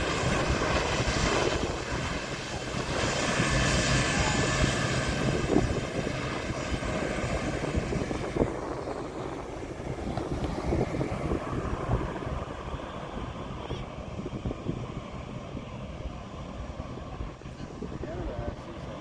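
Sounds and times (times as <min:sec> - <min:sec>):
aircraft engine rumble: 0:00.0 - 0:19.0.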